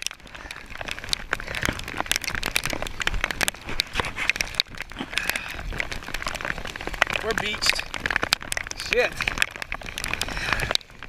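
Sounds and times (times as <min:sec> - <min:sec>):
rain pelting the camera: 0:00.0 - 0:11.0.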